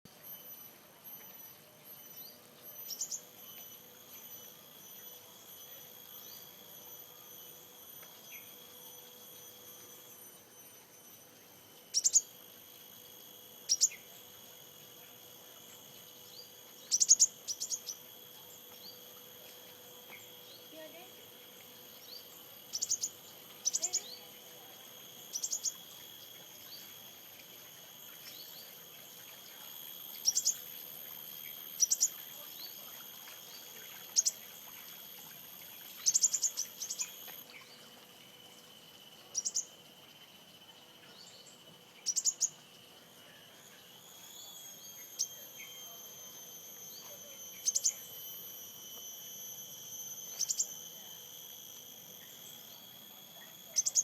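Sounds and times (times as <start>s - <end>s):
high-pitched insect drone: 0.1s - 54.0s.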